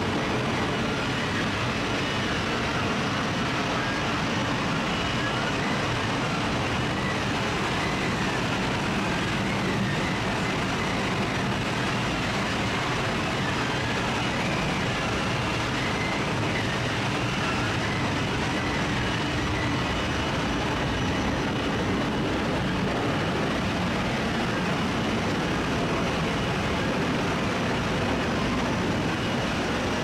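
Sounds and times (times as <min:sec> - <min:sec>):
faint wavering high whine: 0:00.0 - 0:30.0
heavy machinery roar: 0:00.0 - 0:30.0.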